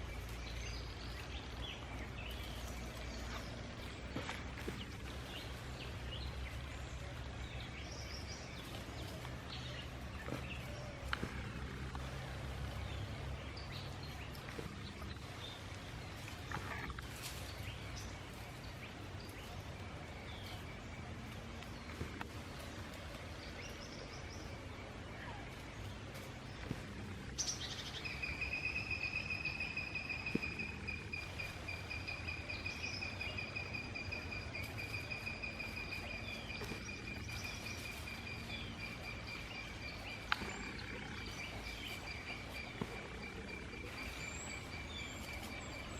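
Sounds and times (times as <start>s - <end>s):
low hum: 0.0s - 45.9s.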